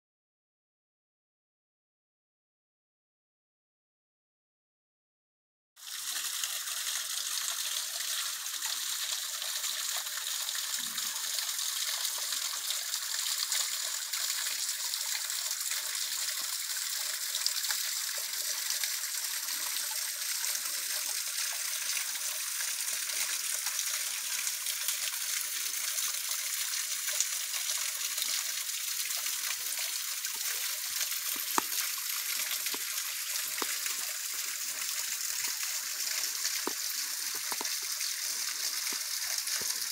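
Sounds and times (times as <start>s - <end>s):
small waterfall splashing: 5.8s - 39.9s.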